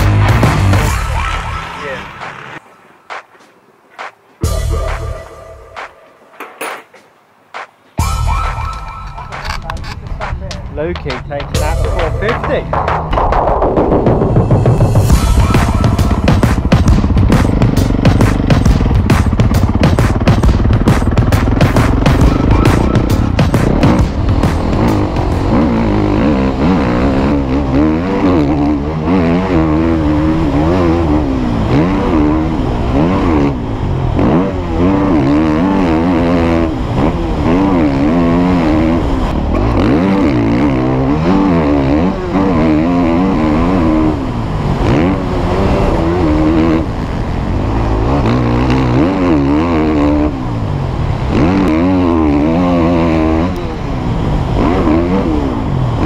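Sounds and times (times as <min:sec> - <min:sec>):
motocross bike revving: 0:11.1 - 0:56.0.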